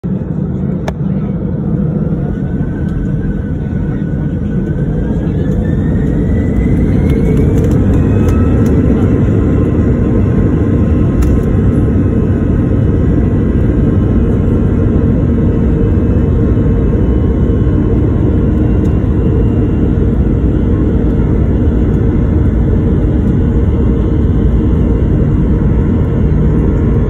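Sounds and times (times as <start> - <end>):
airliner engines powering up: 0.0 - 27.0.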